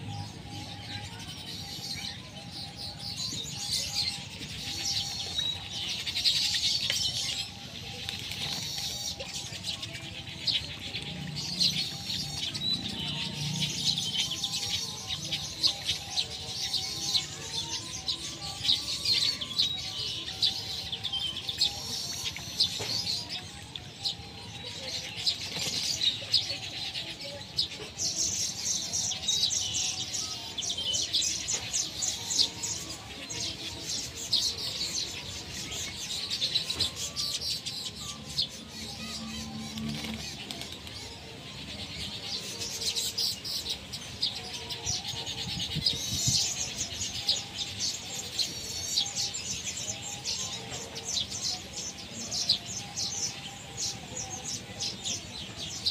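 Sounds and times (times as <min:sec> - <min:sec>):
birds chirping and whistling: 0:00.0 - 0:55.9.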